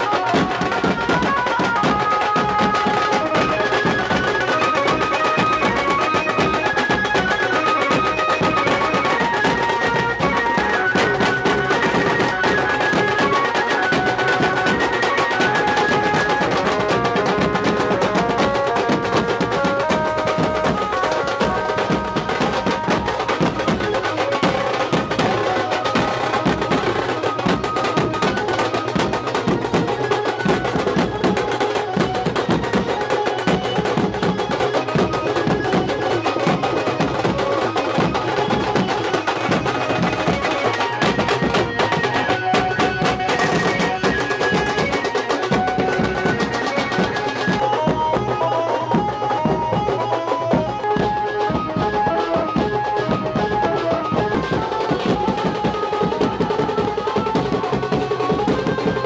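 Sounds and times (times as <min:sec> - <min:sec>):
pitched melody: 0:00.0 - 0:59.0.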